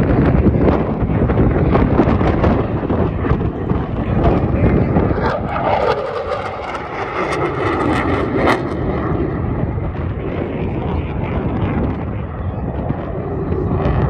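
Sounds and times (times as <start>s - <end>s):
airplane engine roar: 0.0s - 14.0s
wind on microphone: 0.0s - 14.0s.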